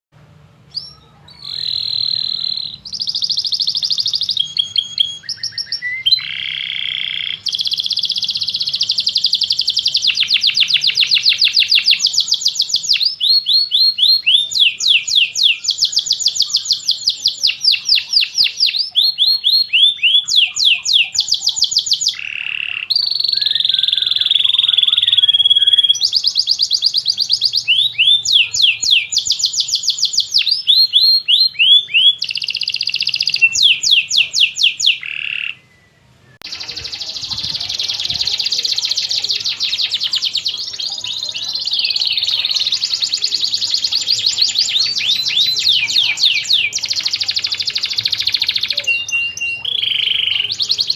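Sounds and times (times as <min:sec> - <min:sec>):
canary singing: 0:00.7 - 0:50.9.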